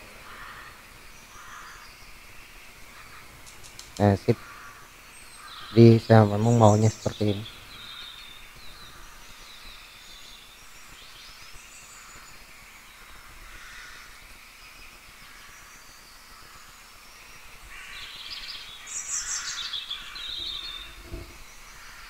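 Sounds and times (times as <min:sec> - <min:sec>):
birds chirping: 0:00.0 - 0:22.0
steady hiss: 0:00.0 - 0:22.0.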